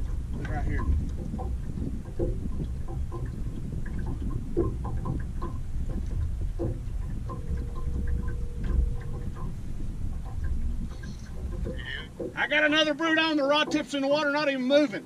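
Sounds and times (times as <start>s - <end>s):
fishing rod taps and knocks: 0.0s - 12.4s
wind rumbling on microphone: 0.0s - 13.8s
faint steady hum: 0.0s - 14.0s.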